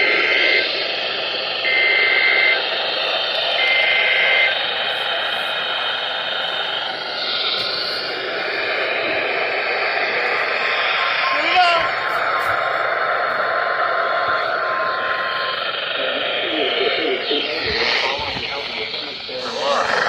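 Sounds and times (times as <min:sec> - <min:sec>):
buzzing two-tone data bursts: 0:00.0 - 0:20.0
radio static hiss: 0:00.0 - 0:20.0.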